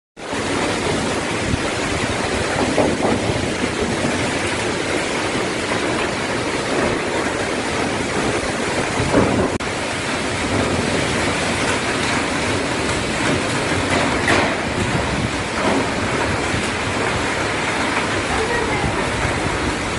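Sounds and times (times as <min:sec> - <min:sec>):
strong wind buffeting microphone: 0:00.2 - 0:19.9.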